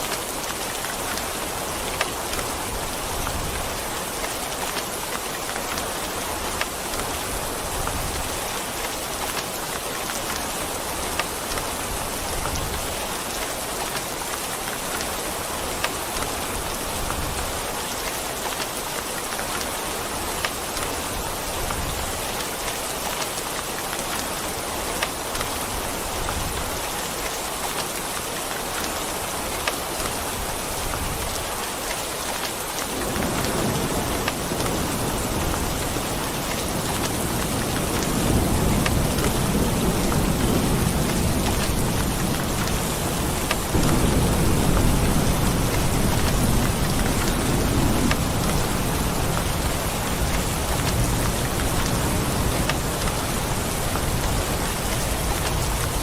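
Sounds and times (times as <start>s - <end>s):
heavy rain on a surface: 0.0s - 56.0s.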